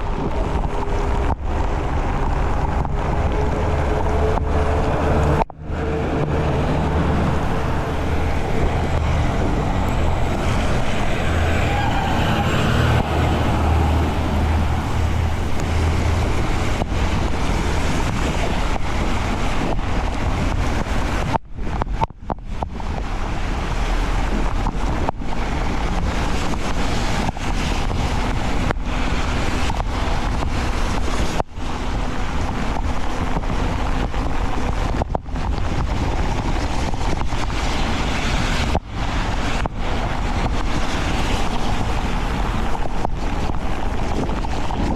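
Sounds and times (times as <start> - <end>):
heavy rain: 0.0 - 44.9
wind rushing on microphone: 0.0 - 44.9.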